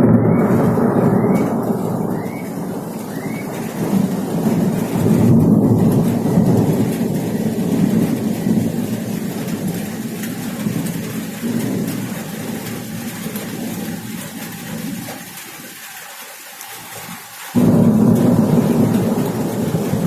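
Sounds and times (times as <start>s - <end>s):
thunder rolling: 0.0s - 14.2s, 17.6s - 20.0s
heavy rain falling: 0.0s - 20.0s.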